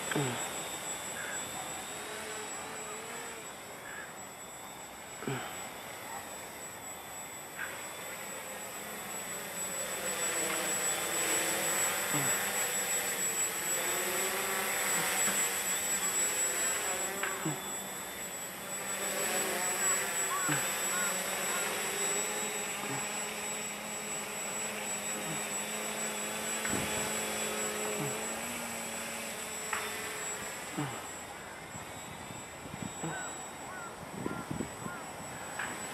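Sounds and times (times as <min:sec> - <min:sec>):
drone propellers buzzing: 0:00.0 - 0:35.9.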